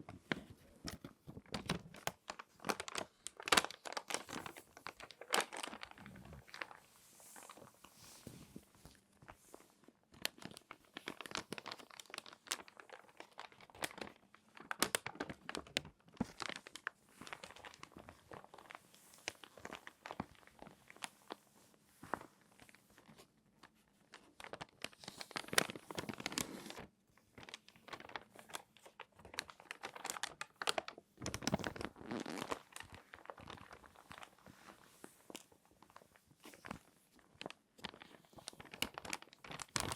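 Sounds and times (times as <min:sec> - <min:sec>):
magazine pages crinkling: 0:00.3 - 0:08.4, 0:10.2 - 0:21.4, 0:22.0 - 0:39.9.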